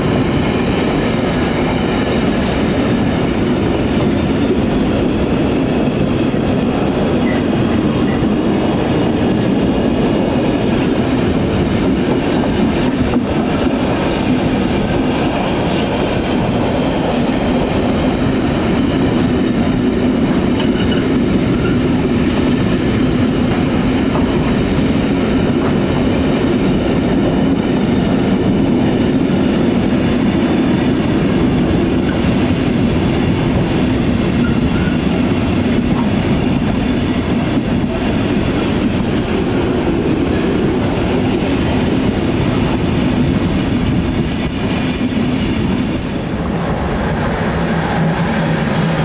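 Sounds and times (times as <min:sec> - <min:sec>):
freight train wheels on rails: 0:00.0 - 0:49.0.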